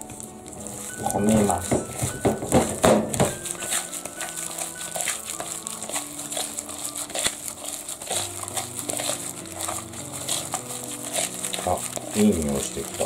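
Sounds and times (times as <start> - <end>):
gloved hand squishing filling: 0.0 - 13.0.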